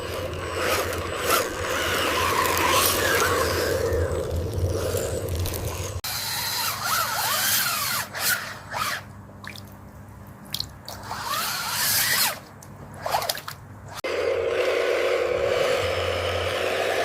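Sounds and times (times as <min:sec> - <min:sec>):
small electric motor whining: 0:00.0 - 0:09.1, 0:11.0 - 0:12.4, 0:13.9 - 0:17.0.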